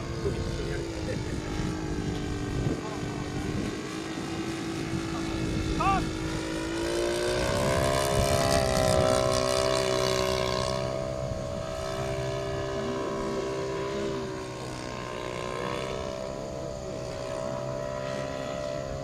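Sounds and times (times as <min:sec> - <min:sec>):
model airplane engine running: 0:00.0 - 0:19.0.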